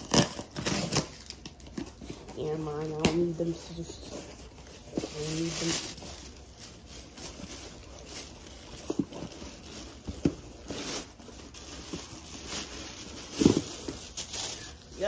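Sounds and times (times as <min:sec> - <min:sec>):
packaging rustling and scraping: 0:00.0 - 0:15.0.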